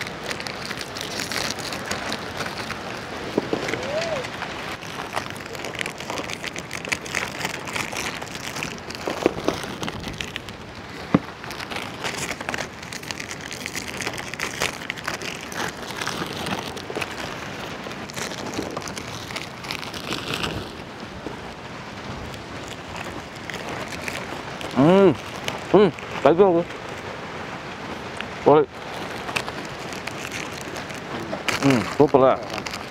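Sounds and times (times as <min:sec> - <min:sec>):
plastic packets crinkling: 0:00.0 - 0:27.1, 0:27.9 - 0:32.9.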